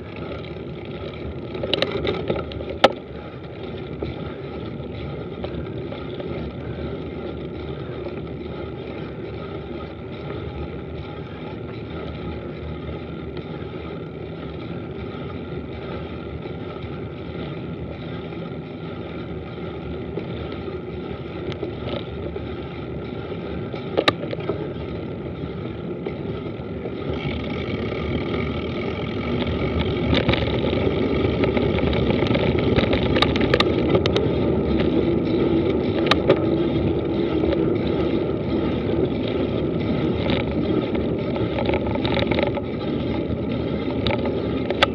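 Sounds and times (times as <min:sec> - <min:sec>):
bike tyres rushing on dirt: 0:00.0 - 0:44.9.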